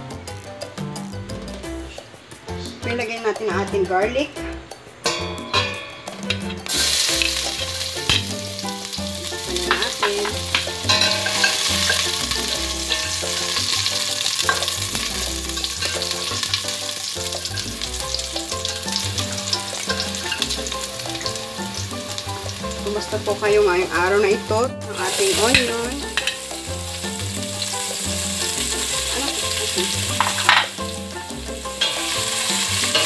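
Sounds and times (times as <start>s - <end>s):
garlic sizzling in oil: 5.1s - 33.0s.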